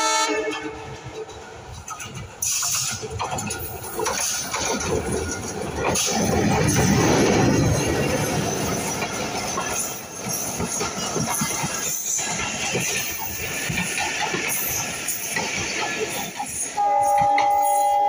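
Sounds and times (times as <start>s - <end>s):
passing train rushing: 0.0s - 18.0s
train wheels clattering: 0.0s - 18.0s.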